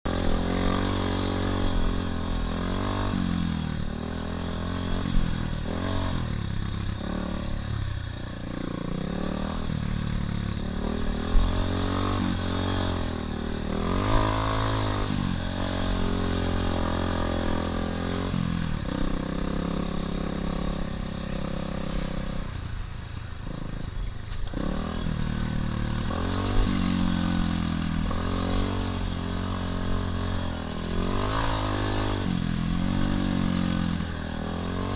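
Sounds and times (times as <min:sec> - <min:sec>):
dirt bike engine revving: 0:00.1 - 0:22.5, 0:24.5 - 0:34.9.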